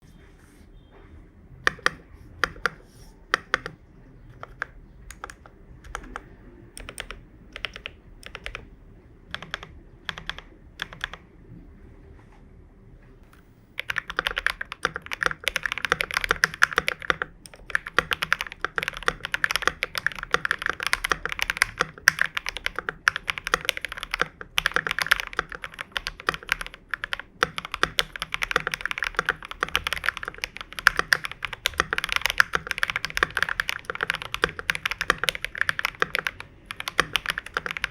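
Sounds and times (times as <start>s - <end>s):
mechanical keyboard typing: 1.6s - 11.2s, 13.8s - 37.9s.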